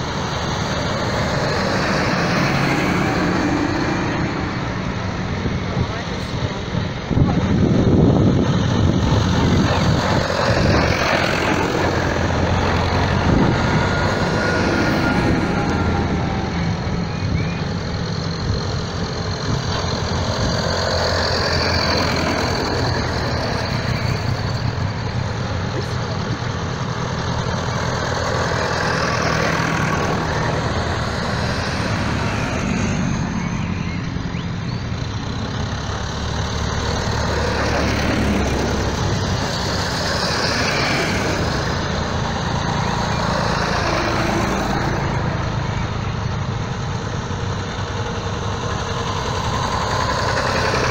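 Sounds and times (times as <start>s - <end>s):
tractor engines driving past: 0.0s - 50.9s.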